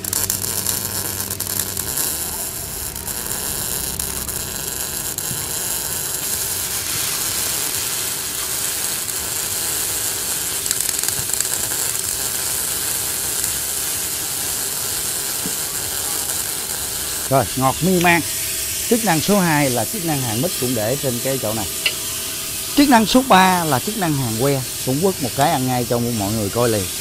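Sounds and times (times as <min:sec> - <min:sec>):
welding arc crackling: 0:00.0 - 0:27.0.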